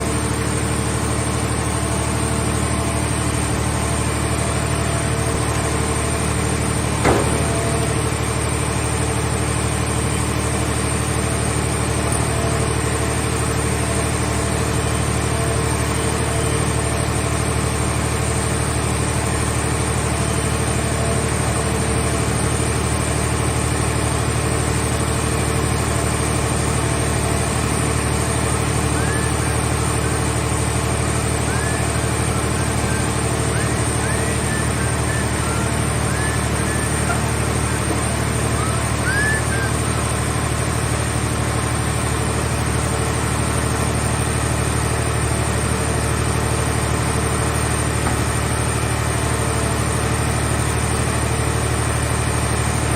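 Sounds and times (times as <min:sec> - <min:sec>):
baler engine running: 0:00.0 - 0:52.9.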